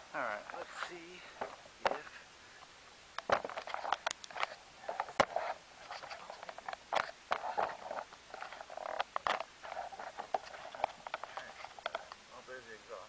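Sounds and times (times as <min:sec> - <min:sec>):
scraping rustles: 0:00.2 - 0:12.2.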